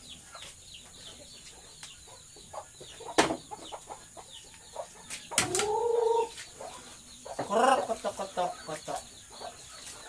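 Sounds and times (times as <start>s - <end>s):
chickens clucking and peeping: 0.0s - 10.0s.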